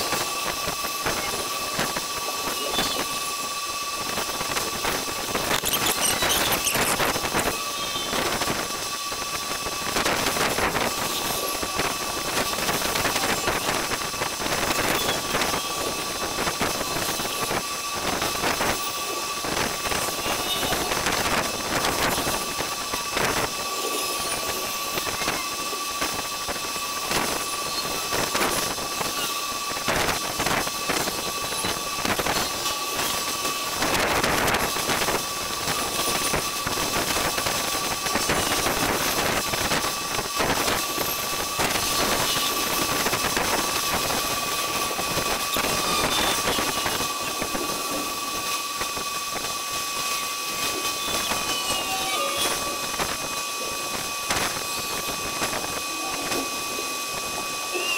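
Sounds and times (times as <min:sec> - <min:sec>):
sped-up wind and rain hiss: 0:00.0 - 0:51.6, 0:52.2 - 0:57.8.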